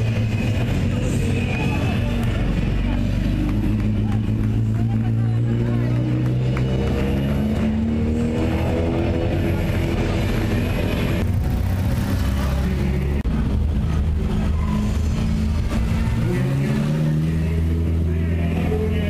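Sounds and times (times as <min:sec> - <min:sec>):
car engine running: 0:00.0 - 0:19.0
rally car engine revving: 0:00.0 - 0:19.0.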